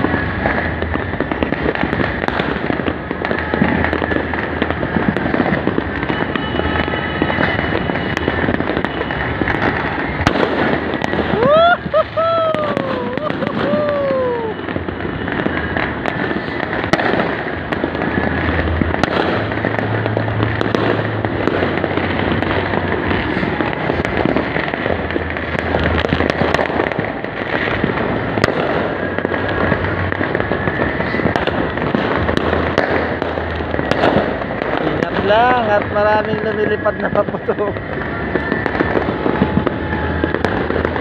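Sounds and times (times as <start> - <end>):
firecrackers crackling and popping: 0.0 - 41.0
sharp firework bangs: 0.0 - 41.0.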